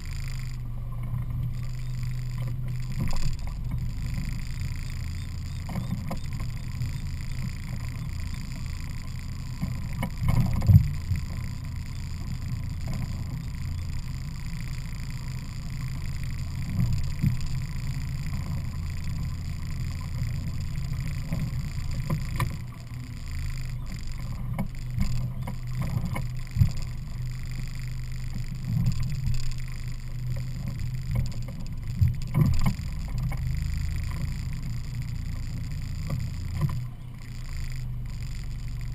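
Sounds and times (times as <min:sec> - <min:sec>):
outboard motor droning: 0:00.0 - 0:38.9.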